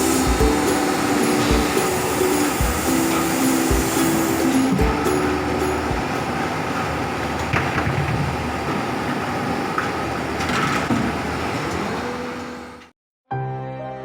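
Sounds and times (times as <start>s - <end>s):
machine running hum: 0.0s - 12.9s.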